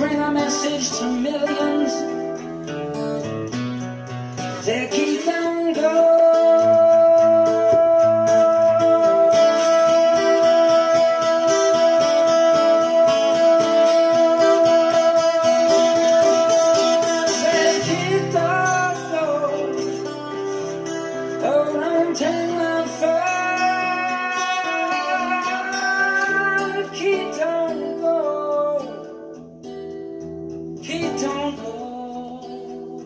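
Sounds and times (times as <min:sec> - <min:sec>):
person singing: 0:00.0 - 0:03.3, 0:04.3 - 0:29.4, 0:30.8 - 0:33.0
guitar: 0:00.0 - 0:33.0.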